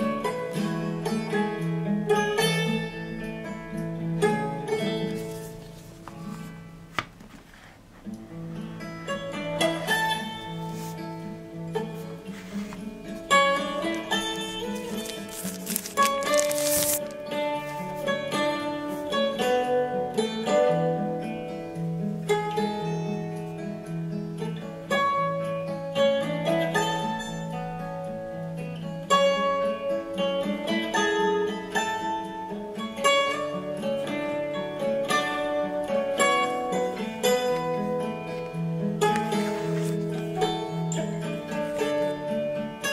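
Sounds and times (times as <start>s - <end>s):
plucked-string melody: 0.0s - 42.9s.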